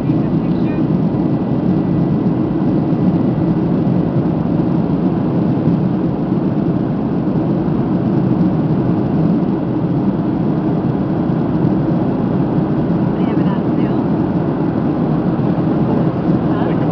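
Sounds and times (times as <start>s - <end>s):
aircraft engine drone in cabin: 0.0s - 16.9s.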